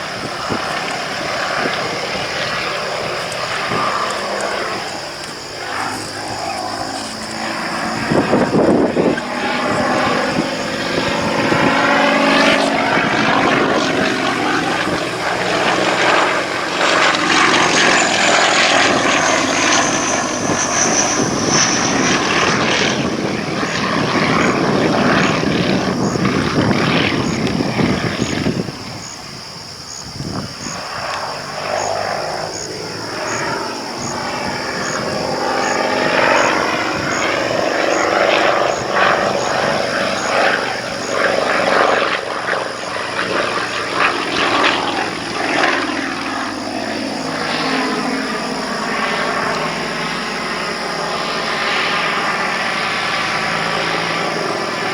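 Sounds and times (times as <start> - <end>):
biplane engine and propeller: 0.0 - 54.9.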